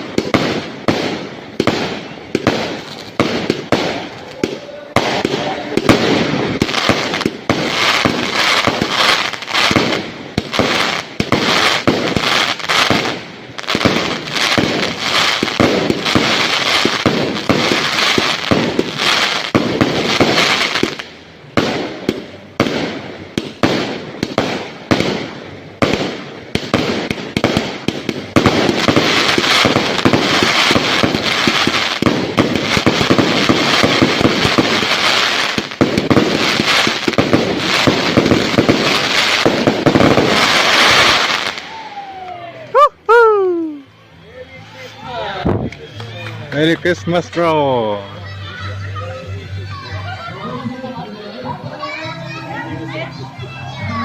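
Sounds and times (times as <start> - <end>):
fireworks bangs and crackles: 0.0 - 44.2, 45.3 - 49.4.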